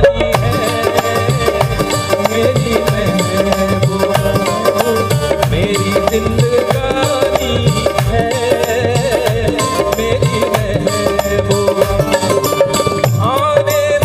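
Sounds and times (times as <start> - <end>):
band melody: 0.0 - 14.0
tabla rhythm: 0.0 - 14.0.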